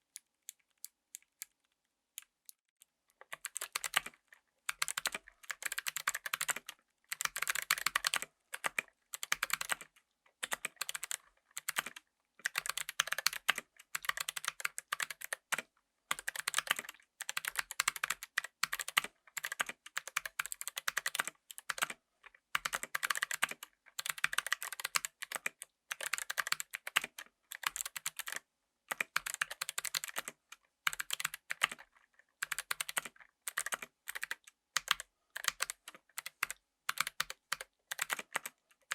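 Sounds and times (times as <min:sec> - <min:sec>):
clicky keyboard typing: 0:03.2 - 0:38.9.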